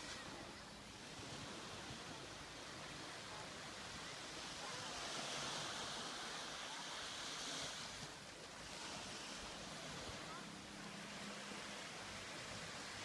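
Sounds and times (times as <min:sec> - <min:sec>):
surf breaking on a beach: 0:00.0 - 0:13.0.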